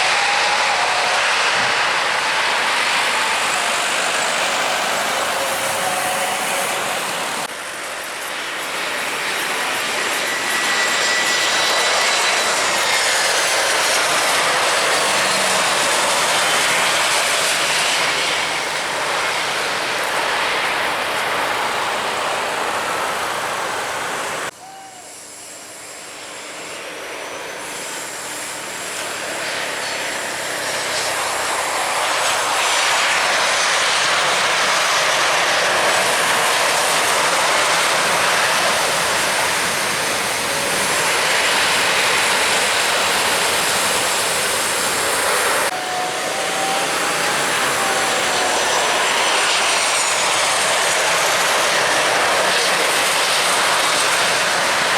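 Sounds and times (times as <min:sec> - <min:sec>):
jet engine rushing: 0:00.0 - 0:54.9.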